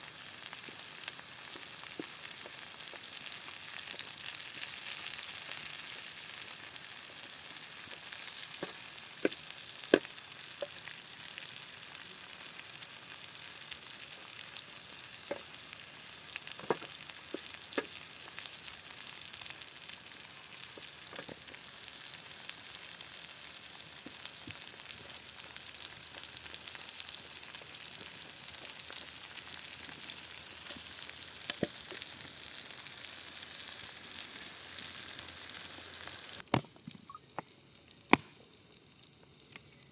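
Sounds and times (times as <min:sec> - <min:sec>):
vegetables sizzling in a pan: 0:00.0 - 0:36.5.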